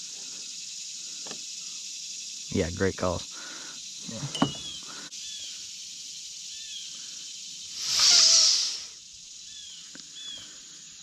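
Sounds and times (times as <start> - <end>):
loud hiss: 0.0 - 9.4
high insect chorus: 0.0 - 11.0.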